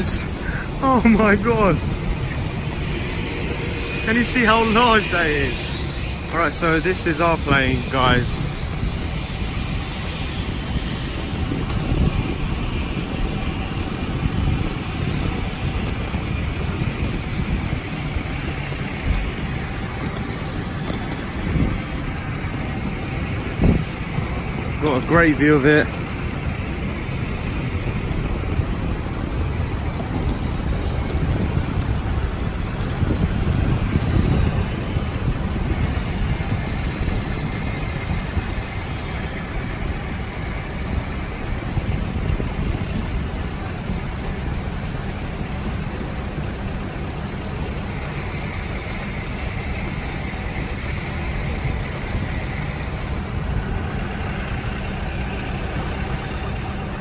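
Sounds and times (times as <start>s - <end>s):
faint high whine: 0.0s - 57.0s
low aircraft rumble: 0.0s - 57.0s.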